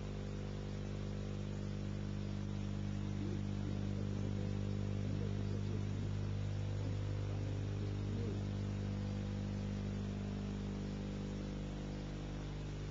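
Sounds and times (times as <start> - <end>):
background hiss: 0.0 - 12.9
electrical hum with low buzz: 0.0 - 12.9
faint wavering tones: 0.8 - 12.9.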